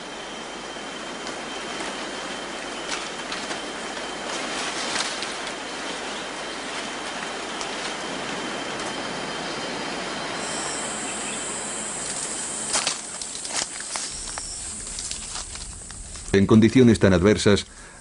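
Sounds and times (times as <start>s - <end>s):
high insect buzz: 0.0s - 16.9s
steady background hiss: 0.0s - 18.0s.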